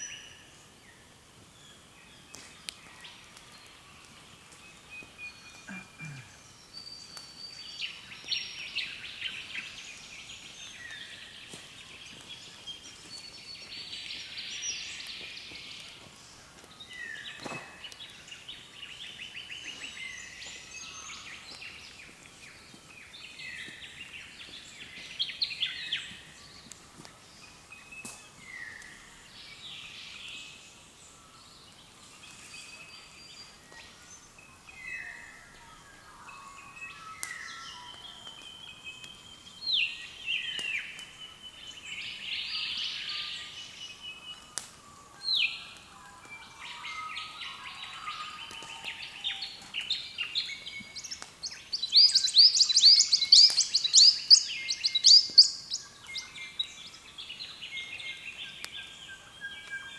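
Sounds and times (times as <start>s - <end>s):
birds chattering and trilling: 0.0s - 59.9s.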